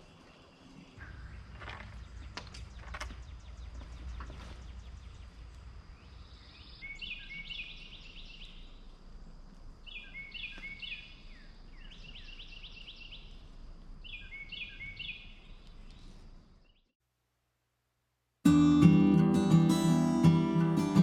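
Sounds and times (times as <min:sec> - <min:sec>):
faint outdoor rumble: 0:00.0 - 0:16.9
songbird singing: 0:00.0 - 0:16.9.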